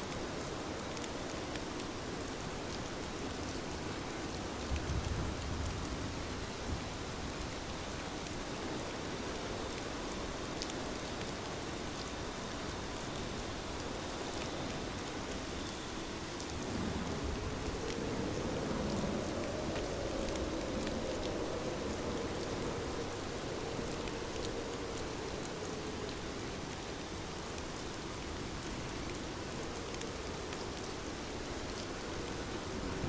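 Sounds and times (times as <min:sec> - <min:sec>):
low water rush: 0:00.0 - 0:33.0.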